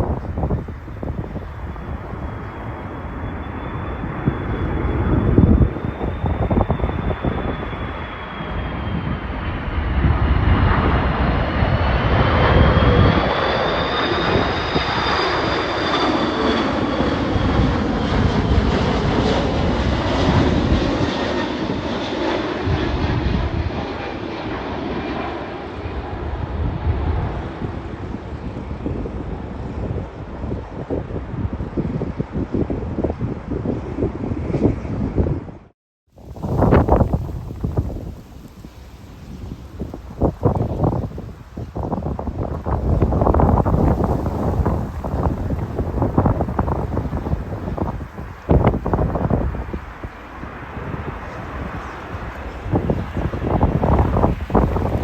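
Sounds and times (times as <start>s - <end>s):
jet airliner engines whining: 0.0s - 55.0s
wind buffeting microphone: 0.0s - 55.0s.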